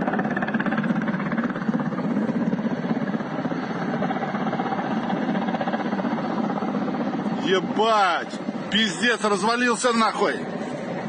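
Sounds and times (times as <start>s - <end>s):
helicopter rotors chopping: 0.0s - 11.0s.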